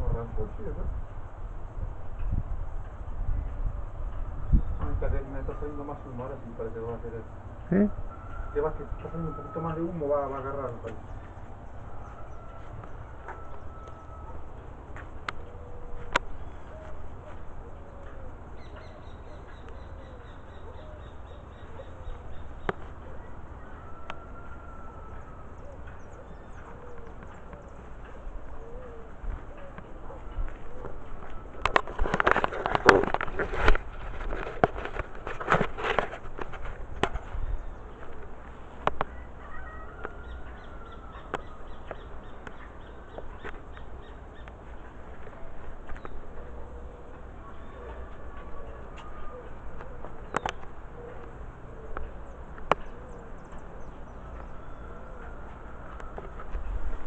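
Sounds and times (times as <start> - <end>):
birds calling: 2.1 - 57.0.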